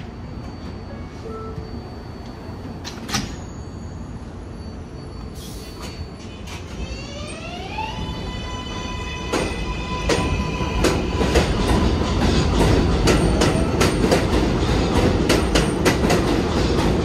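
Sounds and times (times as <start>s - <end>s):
subway train motor whine: 0.0s - 17.0s.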